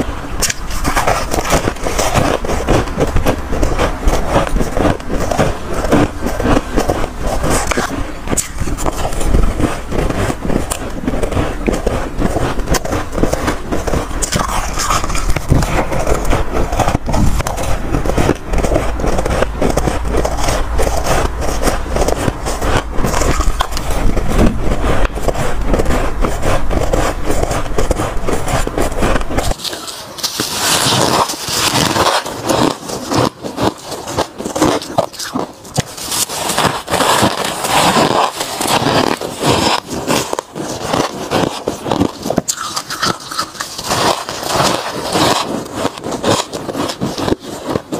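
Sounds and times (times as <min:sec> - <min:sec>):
crunching ice being chewed: 0:00.0 - 0:47.9.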